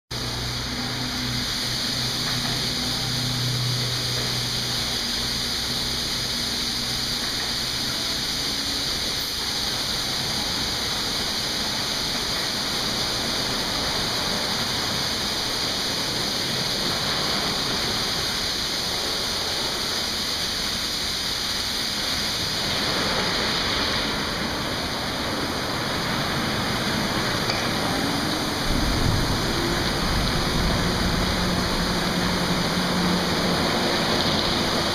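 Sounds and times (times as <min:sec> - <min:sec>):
low machine hum: 0:00.1 - 0:20.0, 0:21.8 - 0:34.9
car wash water spray: 0:00.1 - 0:34.9.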